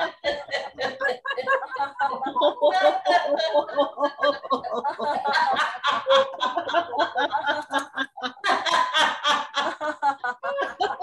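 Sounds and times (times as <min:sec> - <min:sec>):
group of people laughing: 0:00.0 - 0:11.0.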